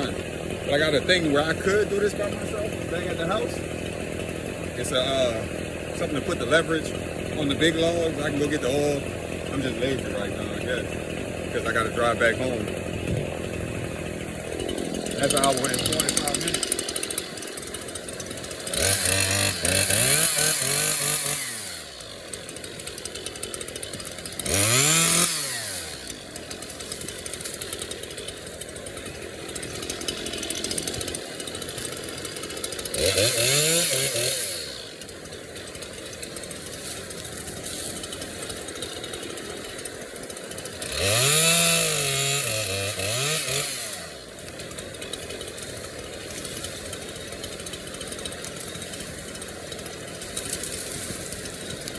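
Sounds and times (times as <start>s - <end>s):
chainsaw revving and idling: 0.0s - 51.9s.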